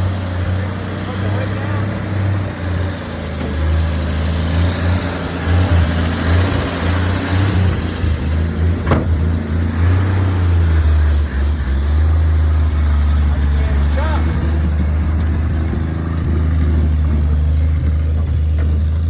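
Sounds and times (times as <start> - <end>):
pickup engine running: 0.0 - 19.0.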